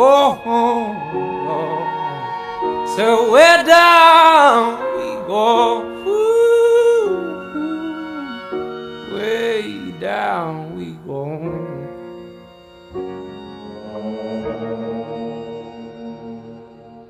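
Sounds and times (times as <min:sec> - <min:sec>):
person singing long notes: 0:00.0 - 0:16.9
instrumental accompaniment: 0:00.0 - 0:17.0.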